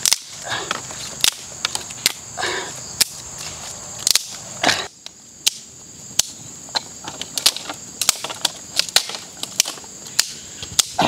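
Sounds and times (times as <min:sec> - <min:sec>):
dry sticks snapping: 0:00.0 - 0:02.2, 0:03.0 - 0:04.4, 0:05.0 - 0:11.0.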